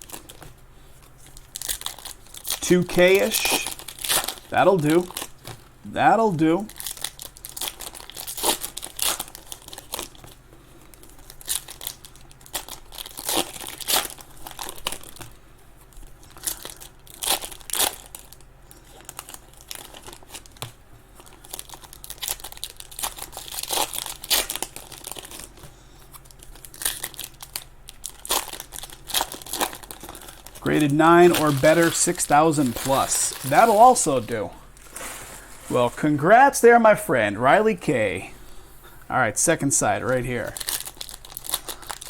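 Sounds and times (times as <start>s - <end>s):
card pack wrappers crinkling: 0.0s - 15.3s, 16.0s - 36.3s, 39.8s - 42.0s.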